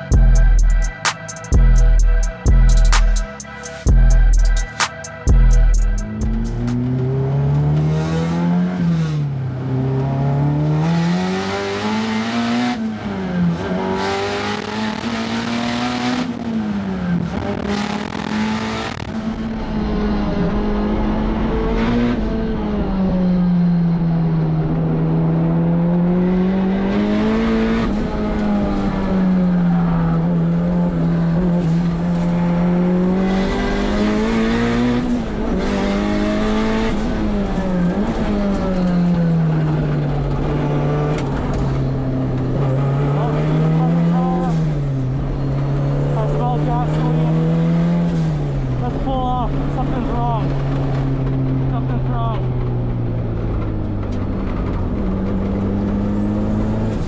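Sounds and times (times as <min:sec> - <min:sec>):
turbocharged car engine revving: 0:00.0 - 0:49.0.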